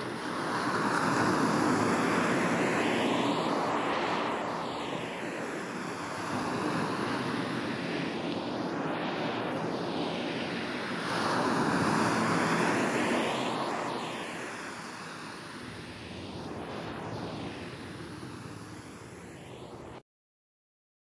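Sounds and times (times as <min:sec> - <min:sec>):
ocean waves breaking on beach: 0:00.0 - 0:19.3.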